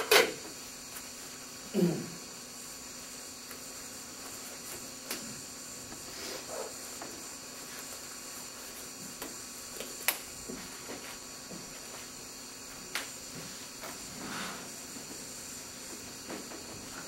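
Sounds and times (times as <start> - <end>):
room tone hiss: 0.0 - 17.0.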